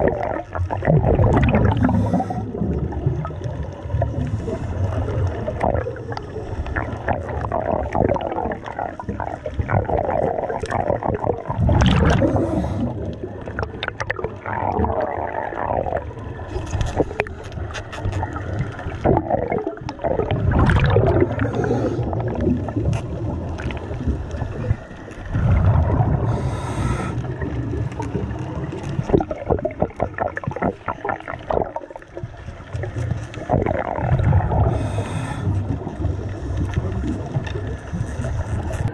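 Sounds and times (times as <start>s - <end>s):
underwater bubbling and gurgling: 0.0s - 38.9s.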